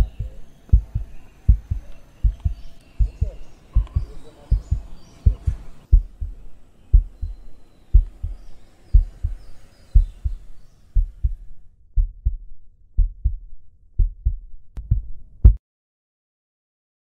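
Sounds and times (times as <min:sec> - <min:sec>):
heartbeat double thumps: 0:00.0 - 0:15.6.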